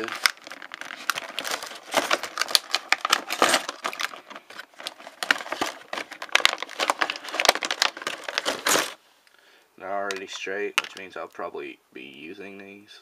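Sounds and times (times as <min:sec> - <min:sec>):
plastic packaging crackling: 0:00.0 - 0:09.0, 0:10.0 - 0:11.5.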